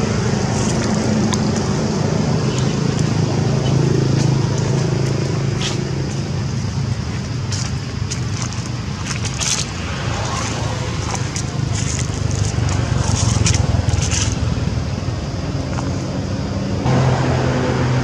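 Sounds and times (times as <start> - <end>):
motor vehicle engine humming: 0.0 - 18.0.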